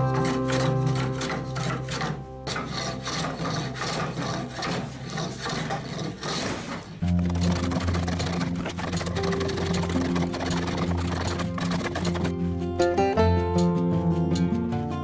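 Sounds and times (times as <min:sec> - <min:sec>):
background music: 0:00.0 - 0:04.2, 0:07.0 - 0:15.0
hand tool scraping wood: 0:00.0 - 0:12.4.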